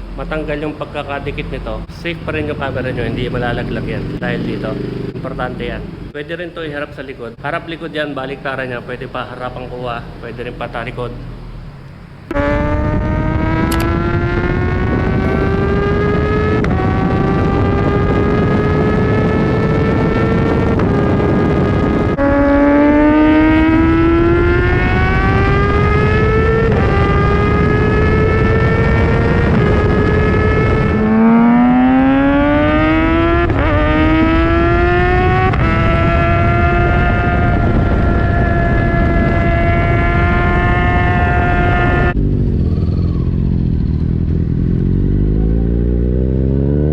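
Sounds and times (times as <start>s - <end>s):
motorcycle engine accelerating: 0.0s - 6.2s, 8.2s - 46.9s
wind and road noise: 0.0s - 46.9s.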